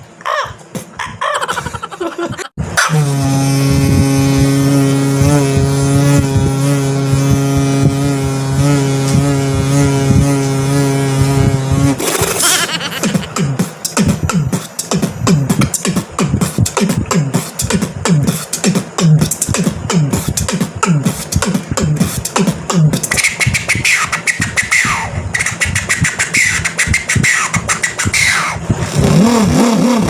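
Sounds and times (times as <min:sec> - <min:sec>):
beatboxing: 0:00.0 - 0:30.0.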